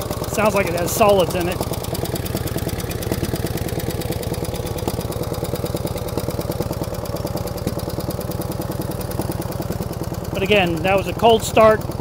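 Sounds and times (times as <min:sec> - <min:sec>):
light engine tapping: 0:00.0 - 0:12.0
motorcycle engine idling: 0:00.0 - 0:12.0.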